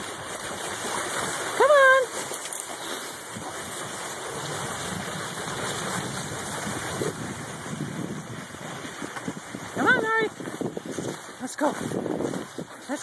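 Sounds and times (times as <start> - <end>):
skis gliding over snow: 0.0 - 13.0.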